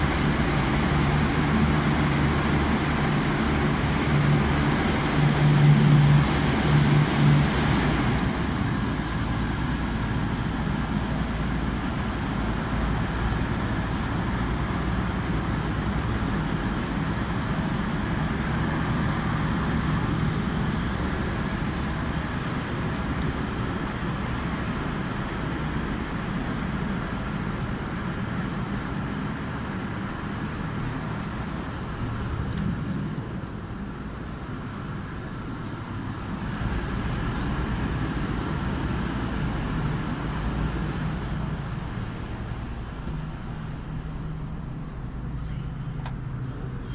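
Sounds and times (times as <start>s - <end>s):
diesel train engine idling: 0.0s - 46.9s.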